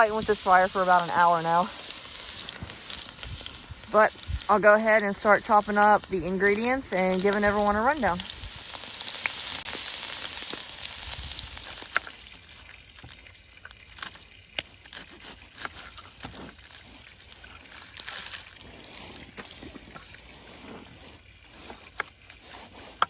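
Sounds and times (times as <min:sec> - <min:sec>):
meat sizzling in a pot: 0:00.0 - 0:23.0.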